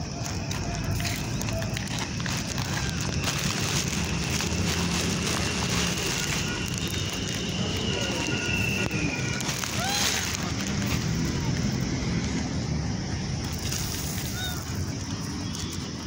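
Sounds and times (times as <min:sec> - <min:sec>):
rice grains pattering on concrete: 0:00.0 - 0:12.2, 0:13.4 - 0:16.0.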